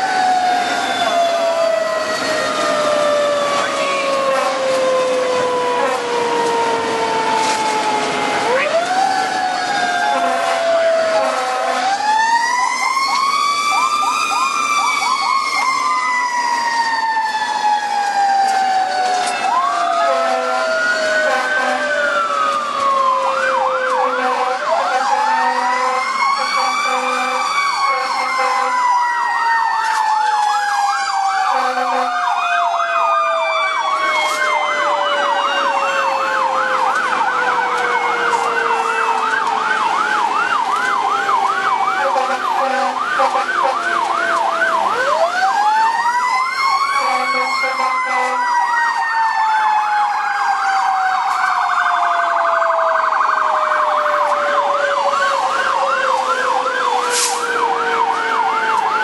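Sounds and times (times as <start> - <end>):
siren wailing: 0.0 - 59.0
siren yelping: 0.0 - 59.0.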